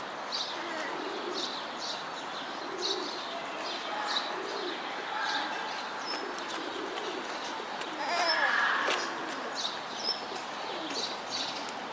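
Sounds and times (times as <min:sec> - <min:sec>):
small birds chirping: 0:00.0 - 0:11.9
steady background hiss: 0:00.0 - 0:11.9
pigeons cooing: 0:00.5 - 0:01.7, 0:02.4 - 0:03.3, 0:04.1 - 0:11.9.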